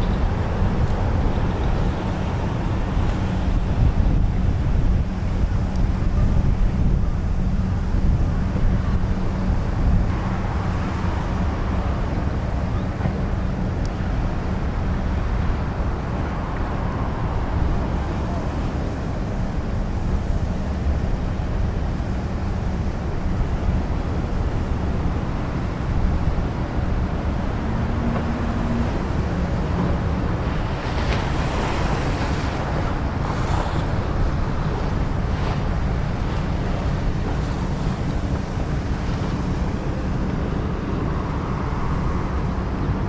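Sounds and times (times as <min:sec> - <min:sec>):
faint constant hum: 0:00.0 - 0:43.0
wind buffeting microphone: 0:00.0 - 0:43.0.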